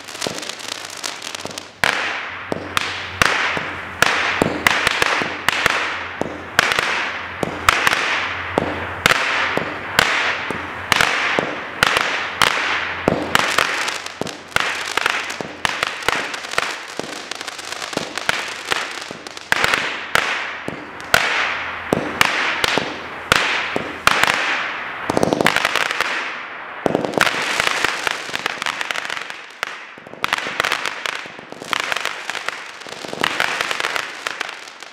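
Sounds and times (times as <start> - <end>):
fireworks popping and hissing: 0.0 - 34.9.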